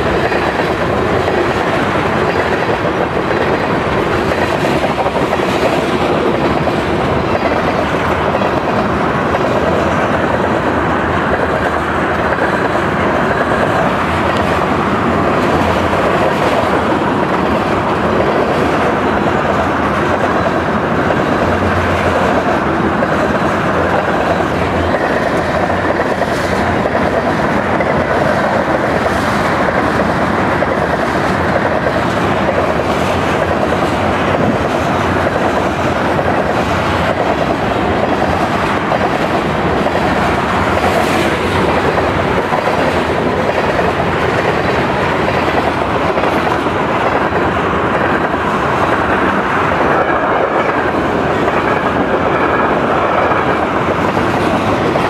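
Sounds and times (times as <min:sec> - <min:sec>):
freight train rumbling past: 0:00.0 - 0:55.0
wheels clacking over rail joint: 0:00.0 - 0:55.0.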